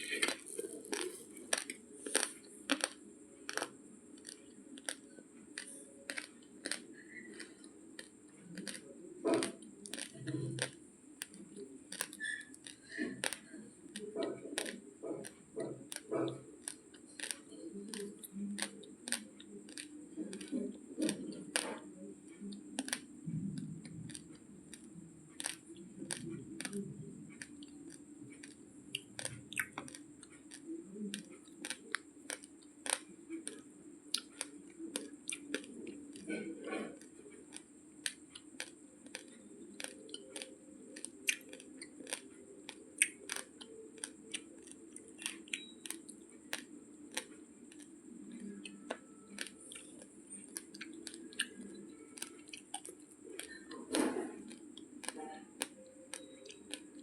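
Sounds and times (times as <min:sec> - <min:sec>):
low steady hum: 0:00.0 - 0:57.0
rice grains crunched by teeth: 0:00.2 - 0:21.8, 0:22.8 - 0:26.8, 0:27.4 - 0:47.9, 0:48.7 - 0:56.9.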